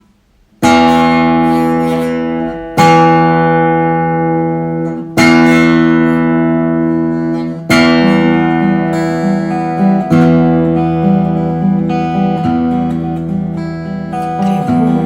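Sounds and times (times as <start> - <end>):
guitar chords strummed: 0.5 - 15.0.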